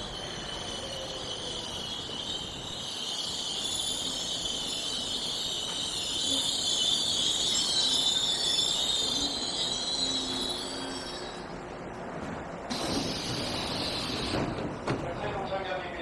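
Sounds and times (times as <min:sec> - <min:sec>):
high-pitched metallic train squeal: 0:00.0 - 0:11.6, 0:12.7 - 0:14.6
low train rumble: 0:00.0 - 0:16.0.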